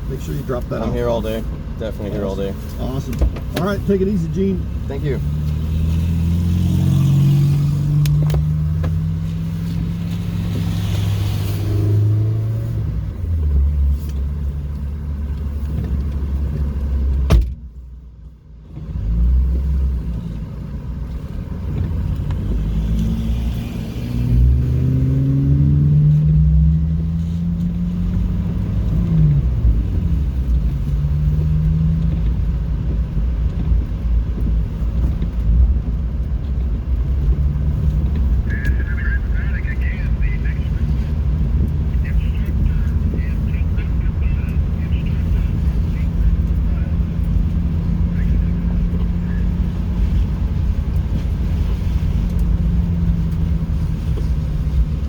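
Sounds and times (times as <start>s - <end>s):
car engine accelerating: 0.0s - 17.4s, 18.6s - 55.0s.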